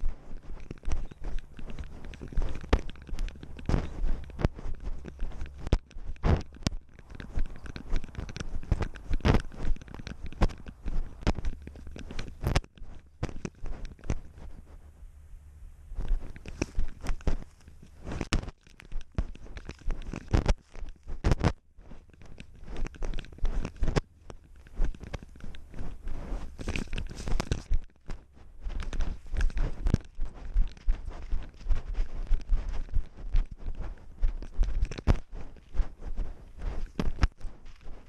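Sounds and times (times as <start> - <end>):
dry grass crunching and rustling: 0.0 - 14.9, 15.8 - 38.0
camera scraping against fur: 0.0 - 15.0, 15.9 - 38.0.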